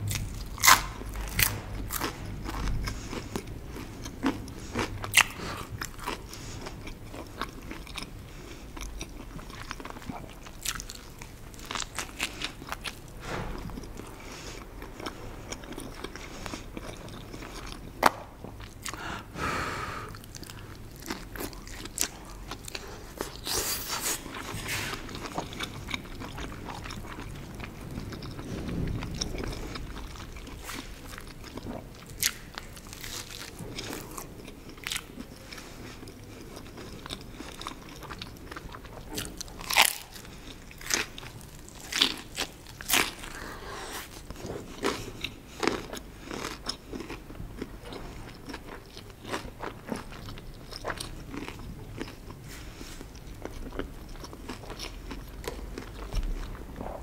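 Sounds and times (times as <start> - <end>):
crunching and chewing bread: 0.0 - 19.3, 20.1 - 57.0.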